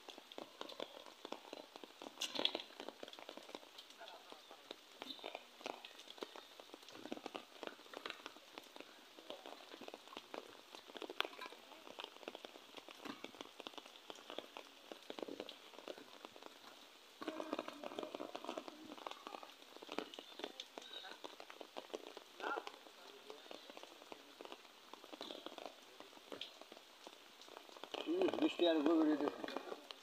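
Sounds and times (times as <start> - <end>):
splashes and drips on water: 0.0 - 30.0.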